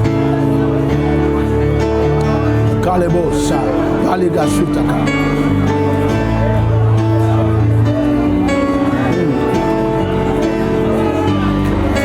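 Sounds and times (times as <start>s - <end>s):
plucked guitar notes: 0.0s - 12.0s
slow held chords: 0.0s - 12.0s.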